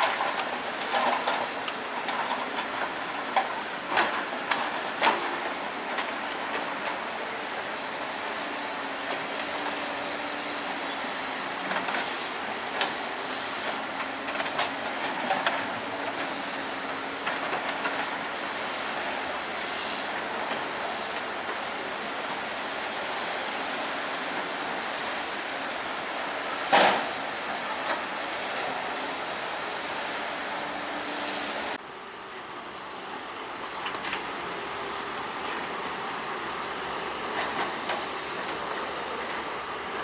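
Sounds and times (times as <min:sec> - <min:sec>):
bulldozer engine: 0:00.0 - 0:40.0
steel tracks clanking and squealing: 0:00.0 - 0:40.0.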